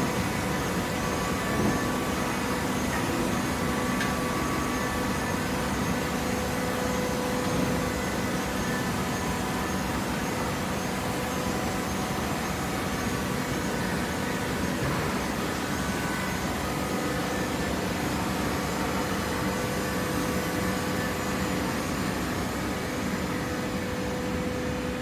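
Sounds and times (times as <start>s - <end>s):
hydraulic baler machine hum: 0.0s - 25.0s.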